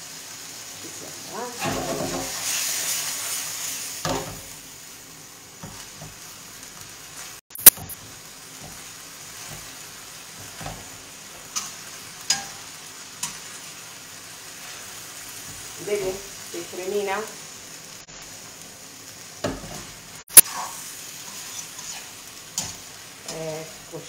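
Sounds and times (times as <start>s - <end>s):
spaghetti sizzling in a frying pan: 0.0s - 24.0s.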